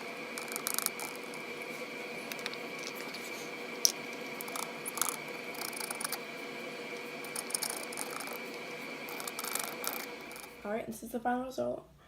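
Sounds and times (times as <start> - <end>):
faint high whine: 0.0 - 10.8.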